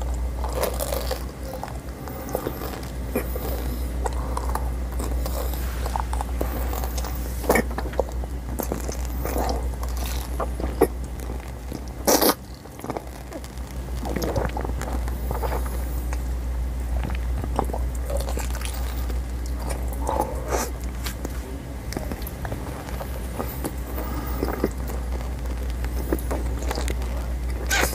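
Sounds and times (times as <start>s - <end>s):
chewing gum crunching: 0.0s - 27.9s
low steady hum: 0.0s - 27.9s.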